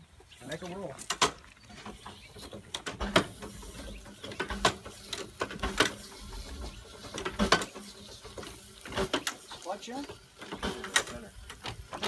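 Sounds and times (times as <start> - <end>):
sharp clicks and knocks: 0.6 - 12.0.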